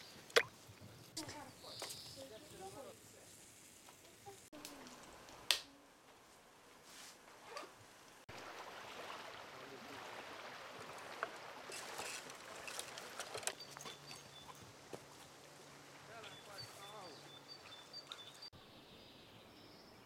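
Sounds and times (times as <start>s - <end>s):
rustling and twig crackles: 0.0s - 8.2s, 10.6s - 18.5s
outdoor ambience: 0.0s - 20.0s.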